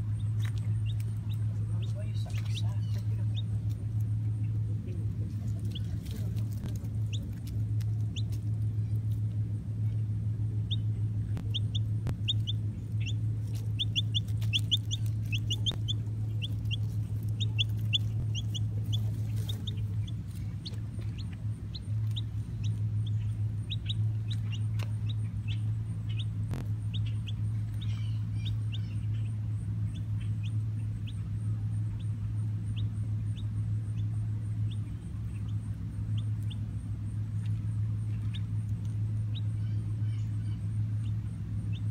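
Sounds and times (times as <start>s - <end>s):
chick peeping: 0.0s - 9.2s, 10.6s - 41.9s
steady low hum: 0.0s - 41.9s.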